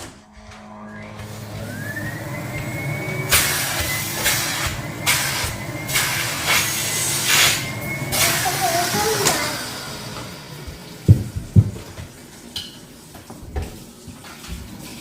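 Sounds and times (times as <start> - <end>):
vacuum cleaner motor whine: 0.0 - 12.5.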